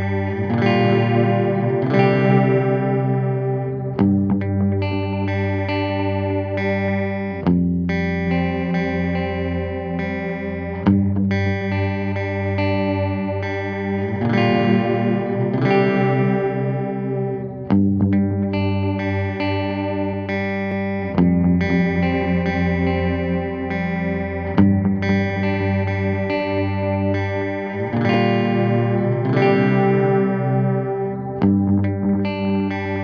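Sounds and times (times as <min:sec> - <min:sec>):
electric guitar chords with delay: 0:00.0 - 0:33.0.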